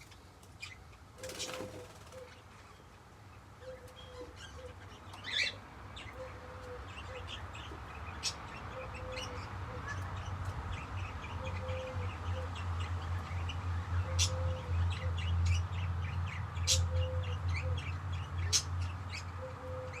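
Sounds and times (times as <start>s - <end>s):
sharp bird calls: 0.0s - 20.0s
budgerigars twittering: 0.6s - 20.0s.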